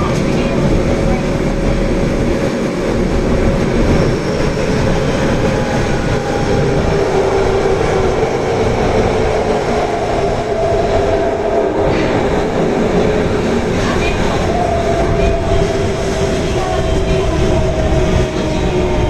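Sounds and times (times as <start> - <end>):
subway wheel and track rumble: 0.0 - 19.0.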